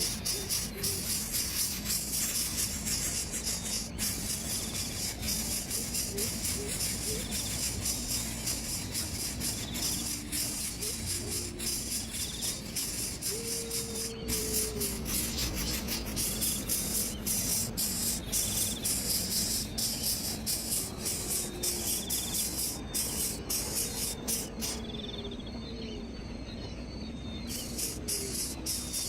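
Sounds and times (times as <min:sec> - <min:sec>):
faint whistled calls: 0:00.0 - 0:29.0
insects chirring: 0:00.0 - 0:29.0.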